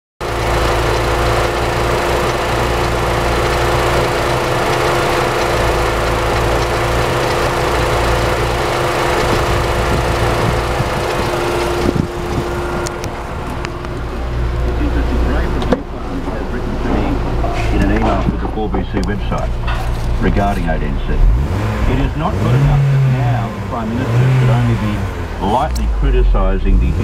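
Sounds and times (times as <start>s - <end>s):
car engine idling: 0.2s - 27.0s.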